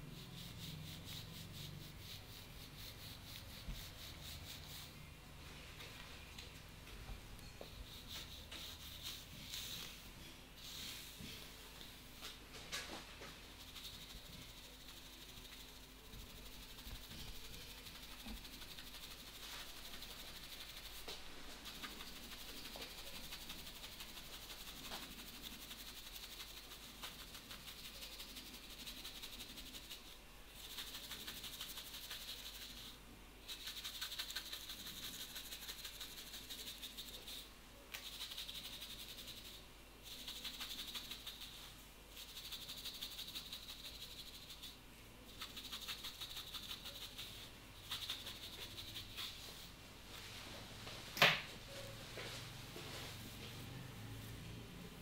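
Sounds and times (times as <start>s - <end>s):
fingers rubbing through hair: 0.0s - 5.1s, 7.6s - 50.9s.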